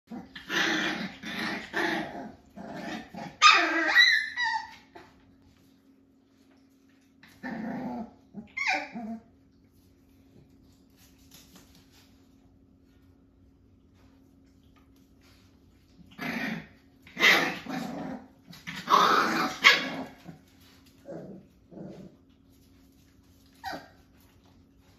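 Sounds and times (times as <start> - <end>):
puppies growling barking and yelping: 0.0 - 11.1, 14.0 - 24.9.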